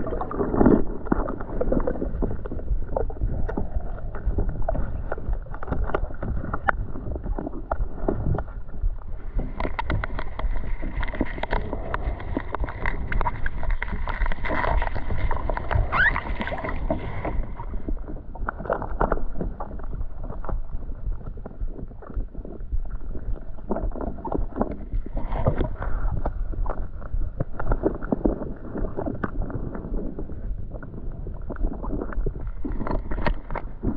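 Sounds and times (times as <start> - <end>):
water sloshing and splashing: 0.0 - 33.9.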